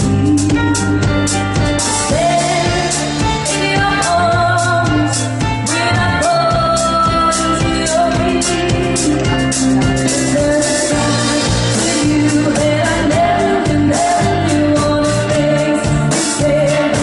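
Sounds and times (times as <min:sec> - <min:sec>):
steady drum beat: 0:00.0 - 0:17.0
lead singer singing: 0:02.0 - 0:17.0.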